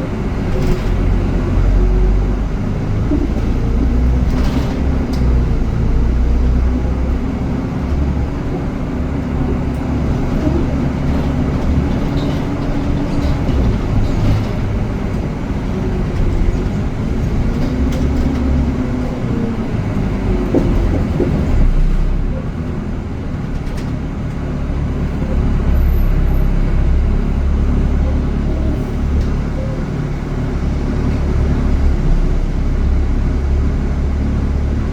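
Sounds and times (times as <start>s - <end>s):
heavy vehicle engine rumbling: 0.0s - 34.9s.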